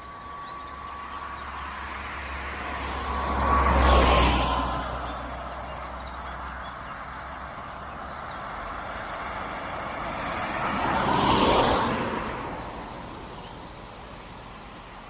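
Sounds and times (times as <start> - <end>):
road vehicles passing by: 0.0 - 15.0.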